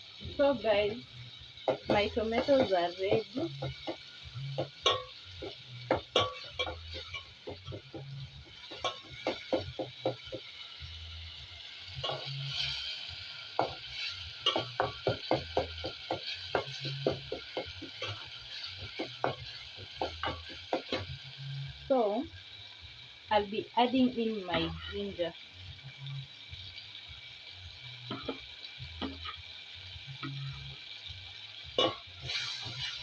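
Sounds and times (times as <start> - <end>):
soft sizzle: 0.0 - 33.0.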